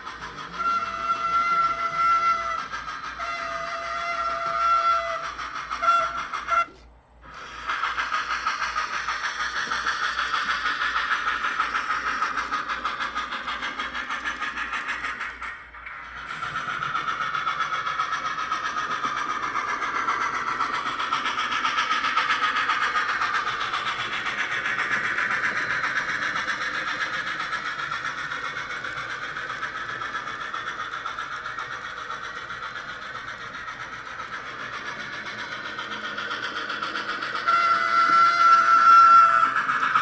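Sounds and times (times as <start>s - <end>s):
model steam locomotive chuffing: 0.0s - 40.0s.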